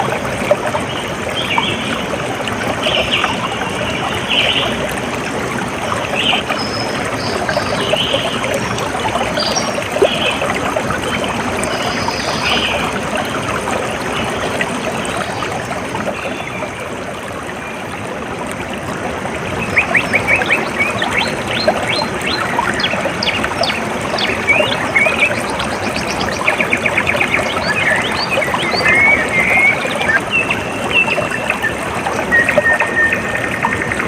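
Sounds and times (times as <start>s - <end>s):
stream water trickling: 0.0s - 34.0s.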